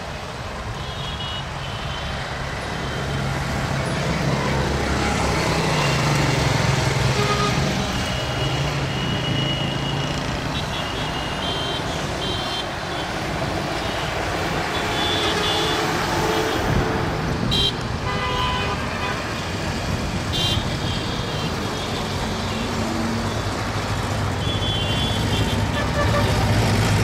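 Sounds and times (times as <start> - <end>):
city road traffic: 0.0 - 27.0.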